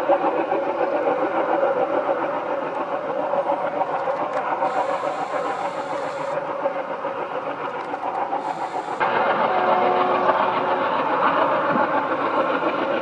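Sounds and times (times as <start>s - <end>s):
diesel locomotives chugging: 0.0s - 13.0s.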